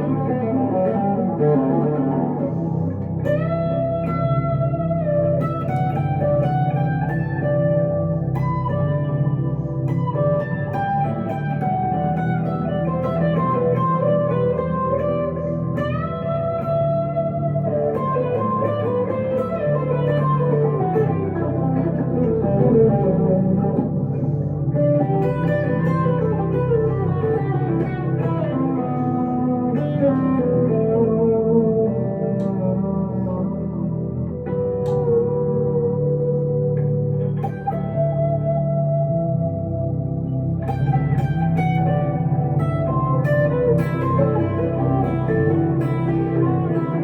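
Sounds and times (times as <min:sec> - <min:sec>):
electric guitar melody: 0:00.0 - 0:47.0.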